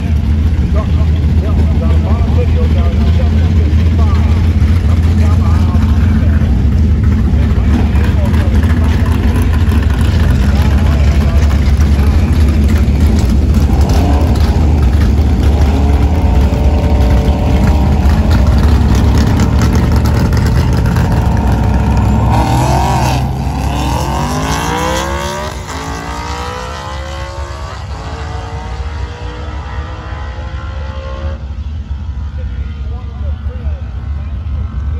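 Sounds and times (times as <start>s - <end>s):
engines accelerating through gears: 0.0s - 34.9s
engines rumbling: 0.0s - 34.9s.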